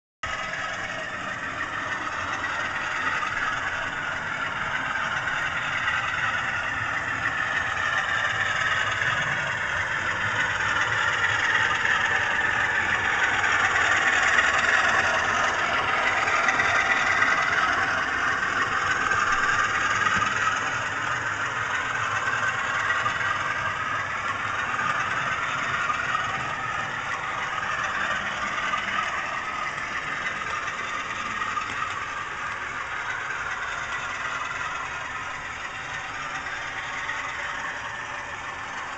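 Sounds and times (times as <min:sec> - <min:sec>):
model train diesel engine sound: 0:00.2 - 0:38.9.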